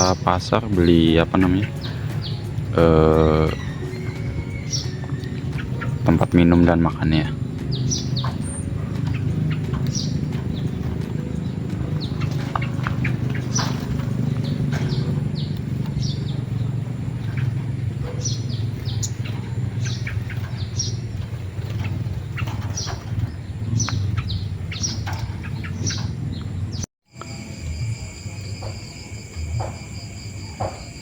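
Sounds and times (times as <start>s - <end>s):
songbirds chirping: 0.0s - 31.0s
steady low hum: 0.0s - 31.0s.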